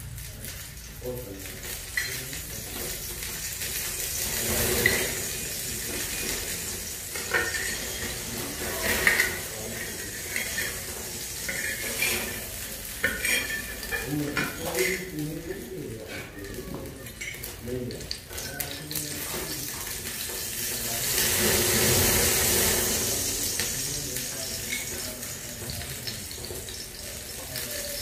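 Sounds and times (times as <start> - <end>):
food frying sizzle: 0.0 - 28.0
metal utensils clinking on cookware: 1.4 - 16.4, 17.0 - 28.0.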